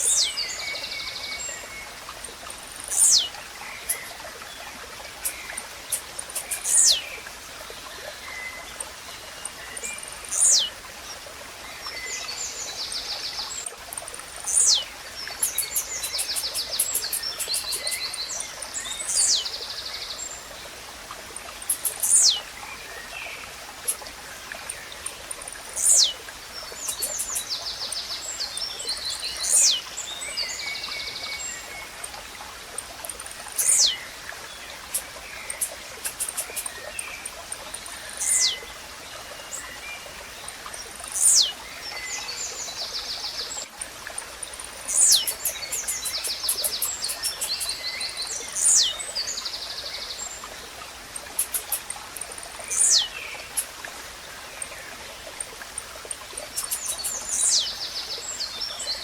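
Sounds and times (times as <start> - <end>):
small birds chirping and trilling: 0.0 - 11.2, 11.8 - 20.7, 21.5 - 59.0
trickling stream: 0.0 - 59.0.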